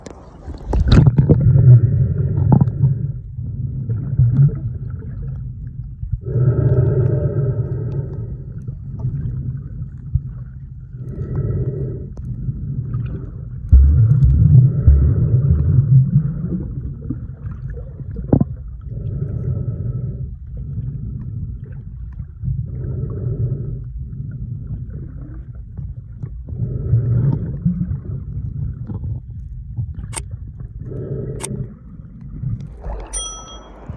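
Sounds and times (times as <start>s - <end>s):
underwater sea rumble: 0.0s - 33.9s.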